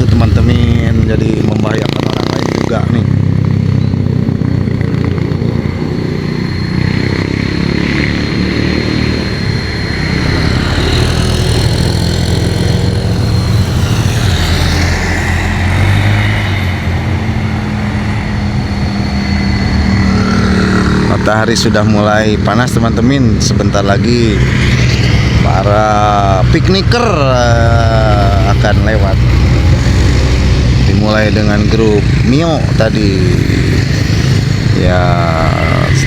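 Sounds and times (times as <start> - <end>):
car engines passing: 0.0 - 36.0
motorcycle engines passing: 0.0 - 36.0.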